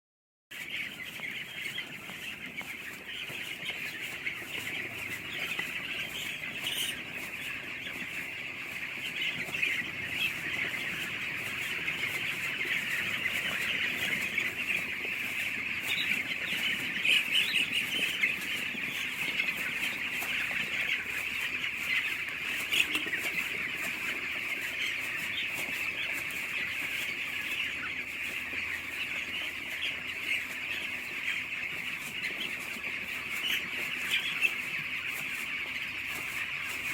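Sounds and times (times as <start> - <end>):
chicks peeping: 0.5 - 36.9.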